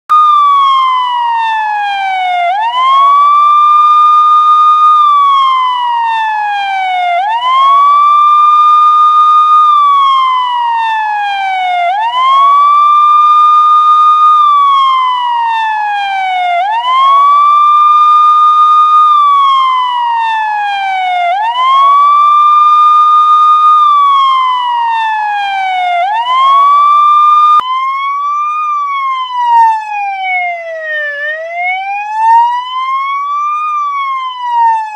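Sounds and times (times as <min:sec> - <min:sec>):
police siren wailing: 0:00.1 - 0:34.9
siren with even sweeps: 0:00.1 - 0:34.9.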